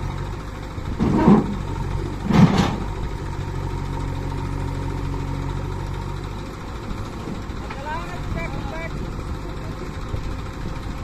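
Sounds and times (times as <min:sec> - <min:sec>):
diesel engine running and revving: 0:00.0 - 0:11.0.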